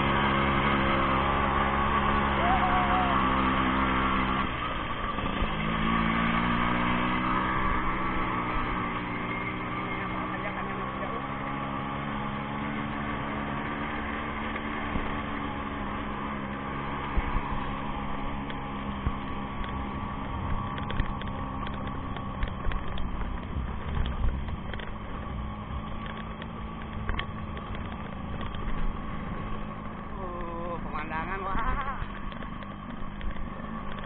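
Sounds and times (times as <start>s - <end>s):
knocks and thumps on dirt track: 0.0s - 34.0s
motorcycle engine running: 0.0s - 34.0s
wind and road noise: 0.0s - 34.0s.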